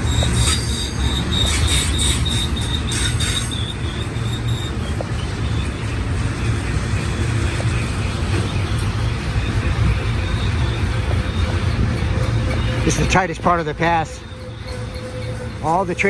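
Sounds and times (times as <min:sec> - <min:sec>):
high-pitched wheel squeal: 0:00.0 - 0:05.9, 0:07.8 - 0:16.0
freight train cars rumbling: 0:00.0 - 0:16.0.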